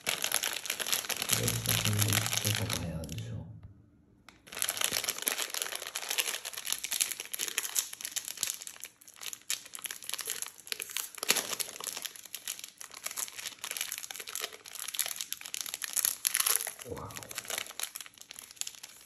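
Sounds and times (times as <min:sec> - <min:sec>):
plastic wrapper crinkling: 0:00.0 - 0:03.2, 0:04.3 - 0:19.0.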